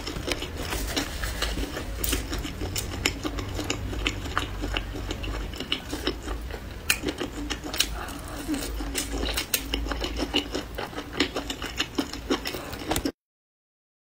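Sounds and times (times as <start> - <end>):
person chewing with wet clicks: 0.0 - 13.1.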